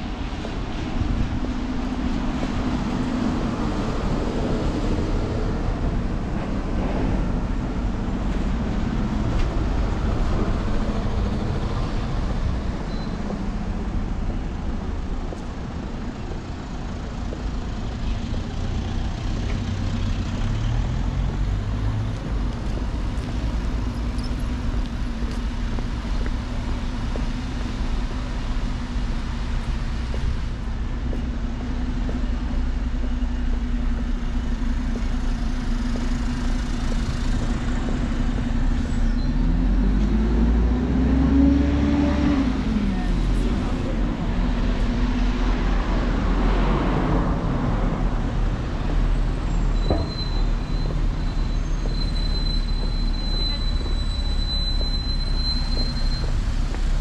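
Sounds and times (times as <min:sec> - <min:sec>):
bus engine passing: 0:00.0 - 0:57.0
traffic on wet street: 0:00.0 - 0:57.0.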